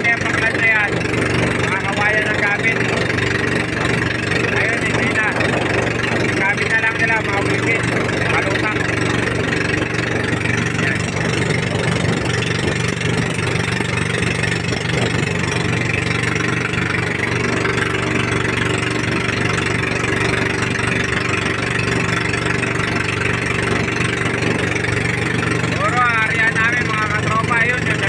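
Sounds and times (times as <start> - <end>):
boat engine running: 0.0 - 28.0
wind and water rushing: 0.0 - 28.0.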